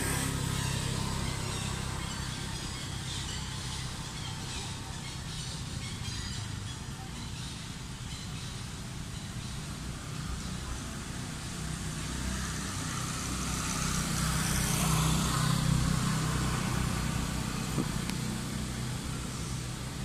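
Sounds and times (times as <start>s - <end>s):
vehicle engine running: 0.0s - 6.7s, 9.4s - 20.0s.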